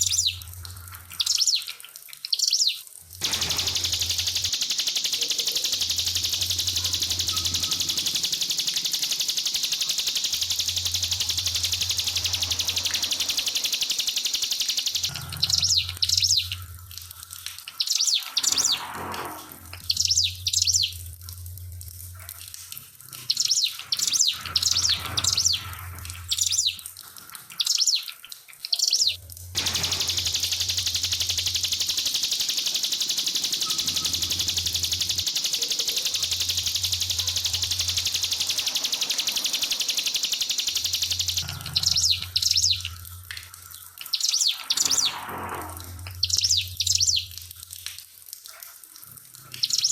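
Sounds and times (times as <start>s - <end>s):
bird singing in rapid bursts: 0.0s - 16.7s, 17.7s - 18.9s, 19.8s - 21.0s, 23.3s - 26.8s, 27.5s - 28.1s, 28.7s - 43.3s, 44.0s - 45.3s, 46.0s - 47.4s, 49.6s - 49.9s
water trickling: 0.0s - 18.5s, 19.4s - 49.8s.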